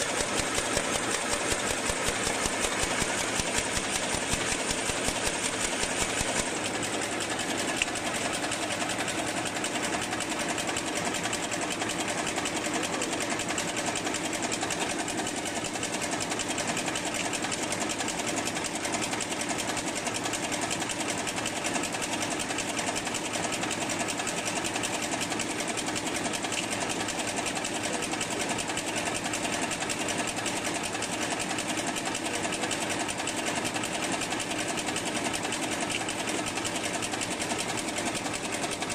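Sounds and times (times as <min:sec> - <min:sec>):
machine clattering: 0:00.0 - 0:38.9.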